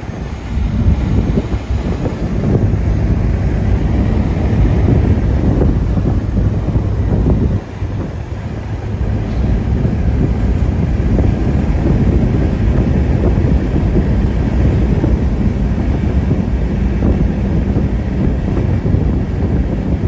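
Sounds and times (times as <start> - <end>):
car engine and exhaust: 0.0 - 20.0
road noise: 0.0 - 20.0
wind buffeting microphone: 0.0 - 20.0.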